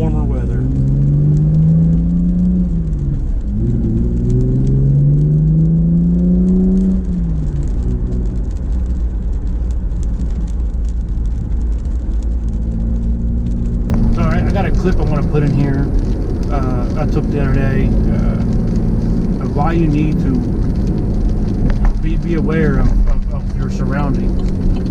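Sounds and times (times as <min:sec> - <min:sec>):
car engine accelerating: 0:00.0 - 0:24.9.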